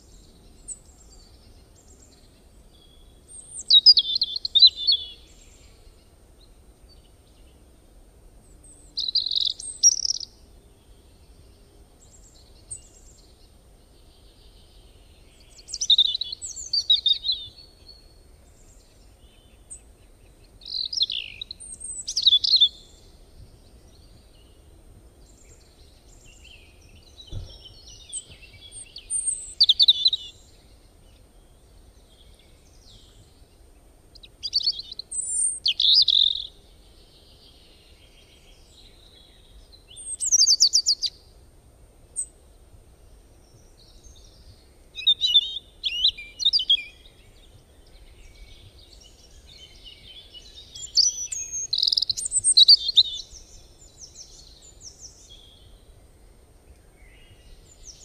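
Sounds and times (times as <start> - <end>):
birds chirping and trilling: 0.0 - 7.6, 8.4 - 41.3, 43.1 - 58.0.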